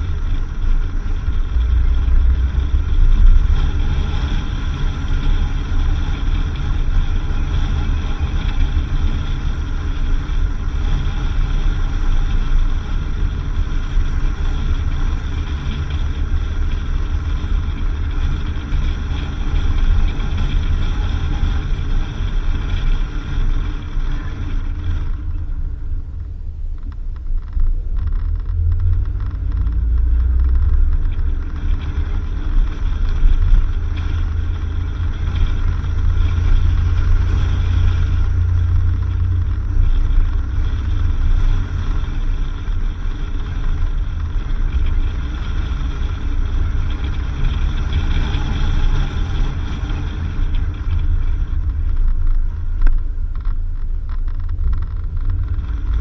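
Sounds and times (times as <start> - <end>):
car driving on dirt road: 0.0 - 56.0.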